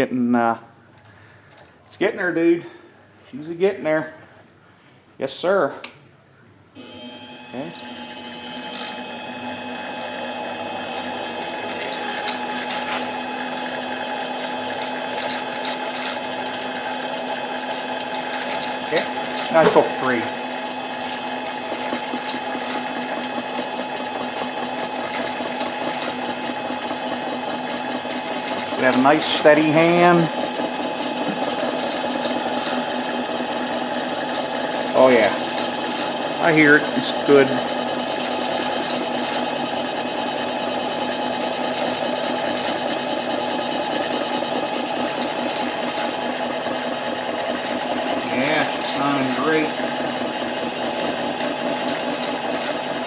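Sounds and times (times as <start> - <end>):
lathe motor whine: 6.8 - 53.0
cutting tool on metal: 7.5 - 53.0.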